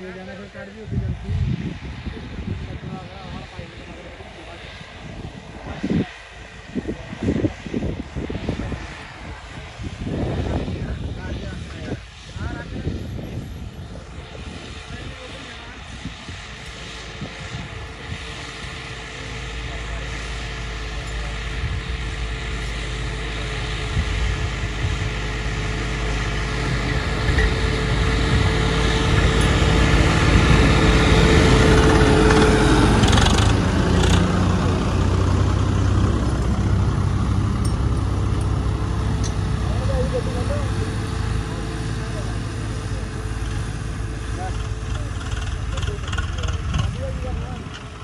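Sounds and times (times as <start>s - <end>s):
diesel tractor working under load: 0.0s - 48.0s
tractor whine: 0.0s - 48.0s.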